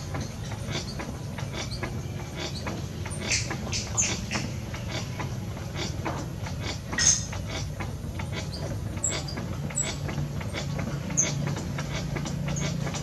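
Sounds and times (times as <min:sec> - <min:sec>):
potter's wheel rumbling: 0:00.0 - 0:13.0
wet clay squeaking: 0:00.0 - 0:13.0.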